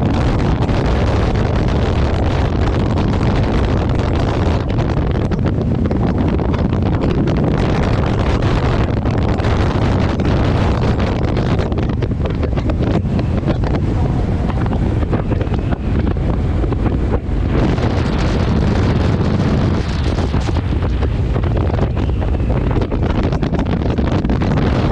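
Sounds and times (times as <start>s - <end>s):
motorcycle ride rumble: 0.0s - 24.9s
wind buffeting microphone: 0.0s - 24.9s.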